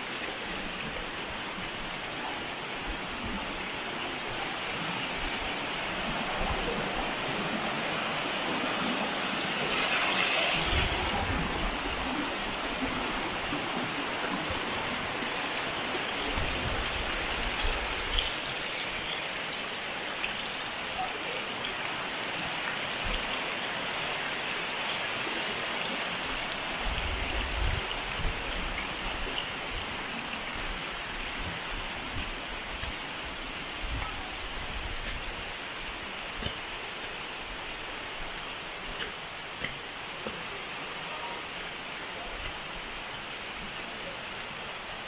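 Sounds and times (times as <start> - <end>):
stream rushing over stones: 0.0 - 45.0.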